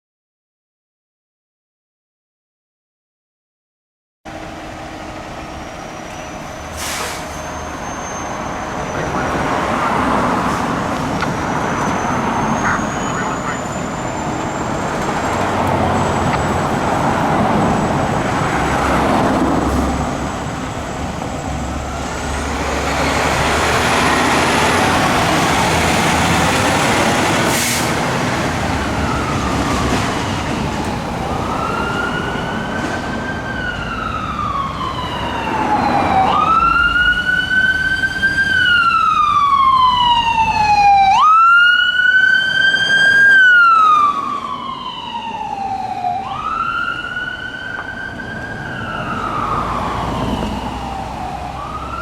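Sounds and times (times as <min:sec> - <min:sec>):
traffic and heavy engine noise: 0:04.3 - 0:52.0
emergency siren wailing: 0:04.8 - 0:52.0.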